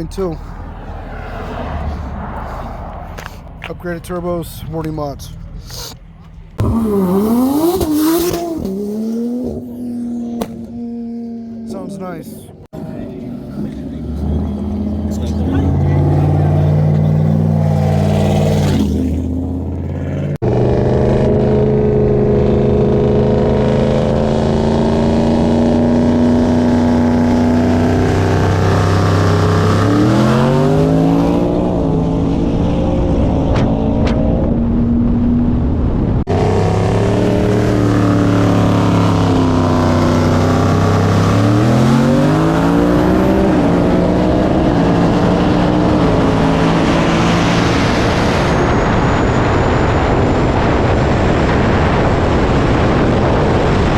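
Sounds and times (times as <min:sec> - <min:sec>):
turbocharged engine accelerating: 0:00.0 - 0:53.9.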